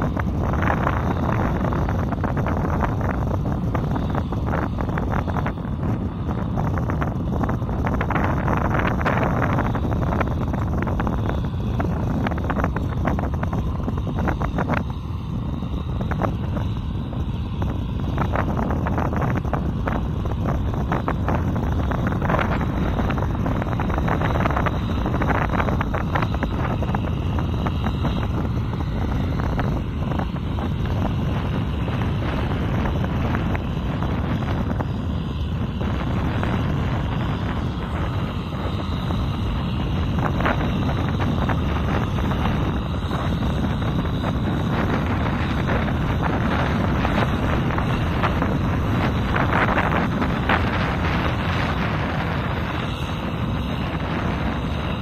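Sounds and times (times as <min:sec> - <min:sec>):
tractor diesel engine running: 0:00.0 - 0:55.0
wind buffeting microphone: 0:00.0 - 0:55.0.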